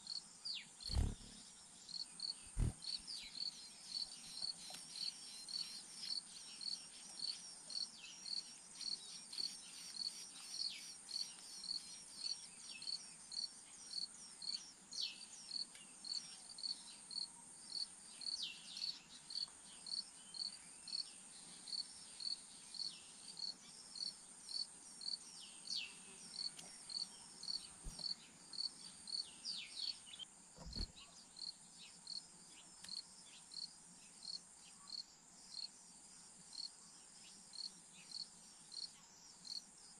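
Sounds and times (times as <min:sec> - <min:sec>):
insects chirping: 0:00.0 - 0:21.1, 0:21.7 - 0:39.9.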